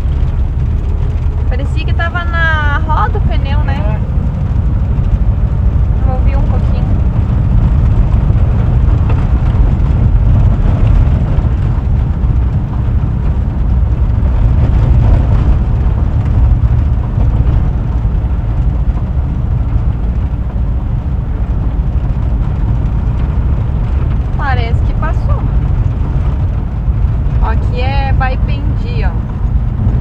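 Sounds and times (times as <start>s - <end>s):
van engine and road noise: 0.0s - 30.0s.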